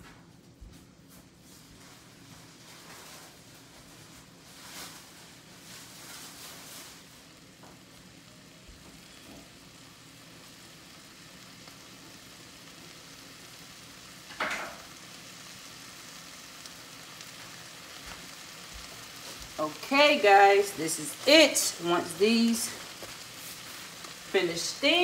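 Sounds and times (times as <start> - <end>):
meat and cheese sizzling on griddle: 2.6 - 25.0.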